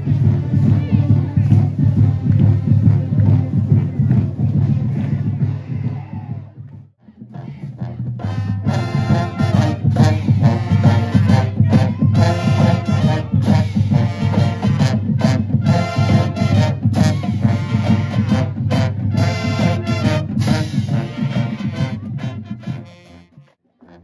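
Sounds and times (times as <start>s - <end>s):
brass band playing upbeat tune: 0.0s - 6.2s, 7.3s - 24.0s.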